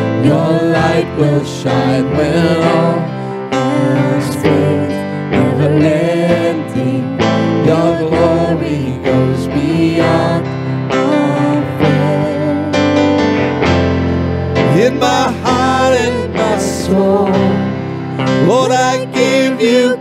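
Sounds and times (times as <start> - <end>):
person singing: 0.0 - 13.2, 14.6 - 20.0
worship band playing: 0.0 - 20.0.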